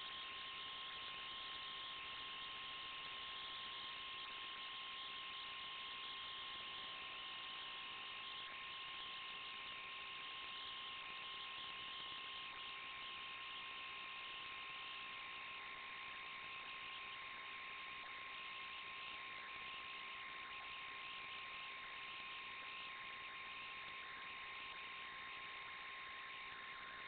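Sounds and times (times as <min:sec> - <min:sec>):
constant high whine: 0:00.0 - 0:27.0
static hiss: 0:00.0 - 0:27.0.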